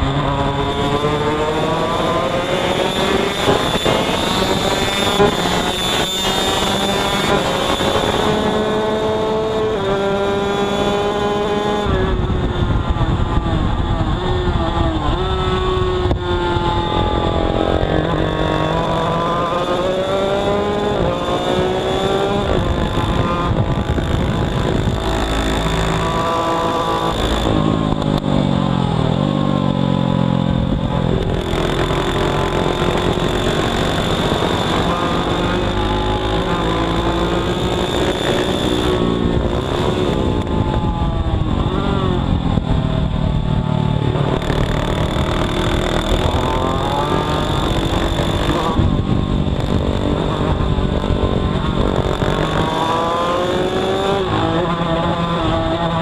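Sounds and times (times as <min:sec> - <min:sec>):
motorcycle engine revving: 0:00.0 - 0:56.0
wind on microphone: 0:00.0 - 0:56.0.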